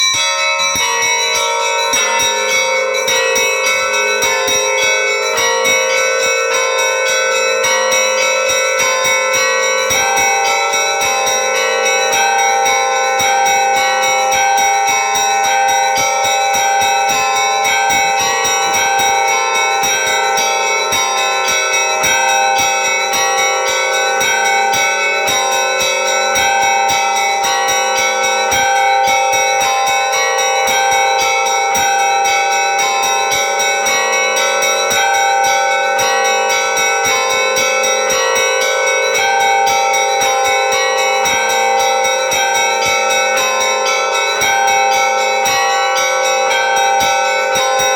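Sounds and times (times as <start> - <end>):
church bells ringing: 0.0 - 47.9.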